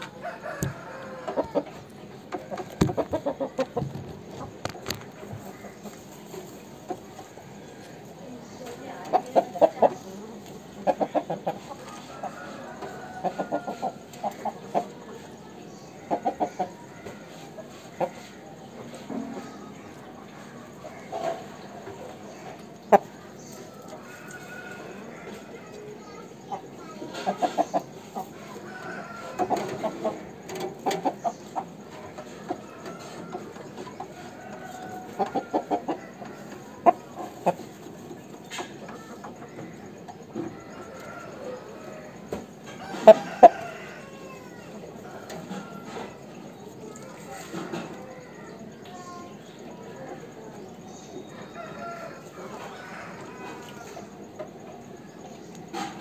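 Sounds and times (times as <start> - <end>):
rooster clucking: 0.0 - 8.0, 8.6 - 19.6, 20.5 - 48.0.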